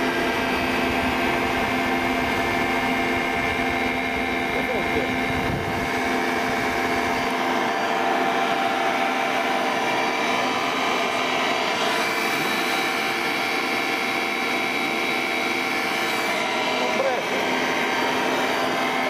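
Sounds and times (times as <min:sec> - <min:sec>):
motor-generator whirring hum: 0:00.0 - 0:19.0.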